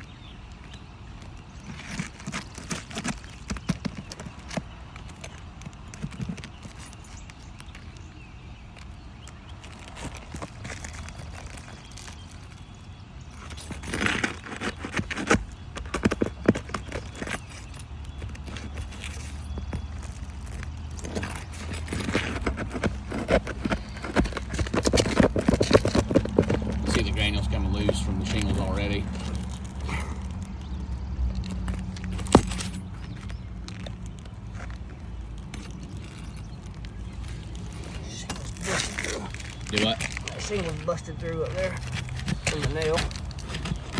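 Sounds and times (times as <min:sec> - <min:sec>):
knocks and scrapes on roof shingles: 0:00.0 - 0:43.9.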